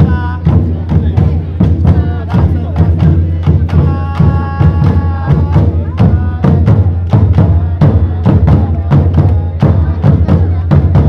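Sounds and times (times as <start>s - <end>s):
drum band playing driving beat: 0.0s - 11.0s.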